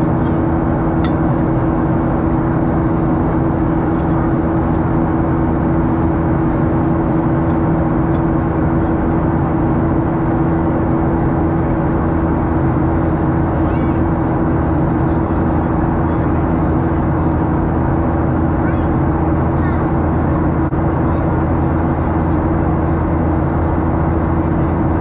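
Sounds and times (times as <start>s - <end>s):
aircraft cabin engine drone: 0.0s - 25.0s
constant low hum: 0.0s - 25.0s.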